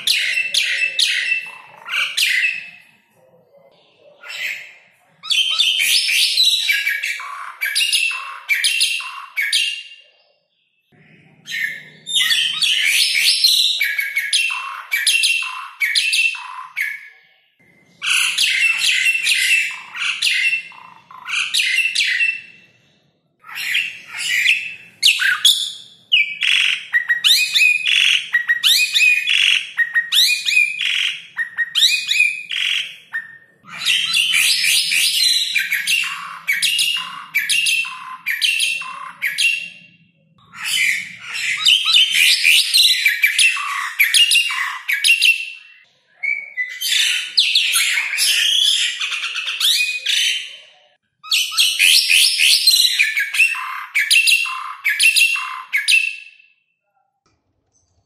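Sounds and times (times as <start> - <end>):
starling singing: 0.0 - 9.9, 10.8 - 22.7, 23.4 - 50.6, 51.2 - 56.4.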